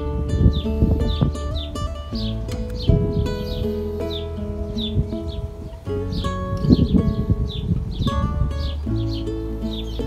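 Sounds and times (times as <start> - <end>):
music of held notes: 0.0 - 10.0.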